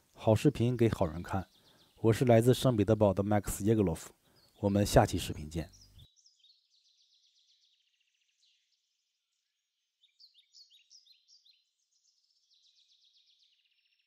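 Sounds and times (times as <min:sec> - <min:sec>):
songbirds trilling and chirping: 0:00.0 - 0:14.0.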